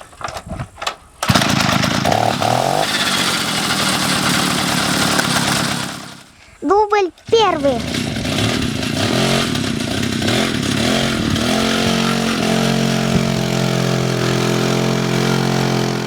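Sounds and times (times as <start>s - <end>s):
two-stroke engine running: 1.2s - 6.4s, 7.2s - 16.0s.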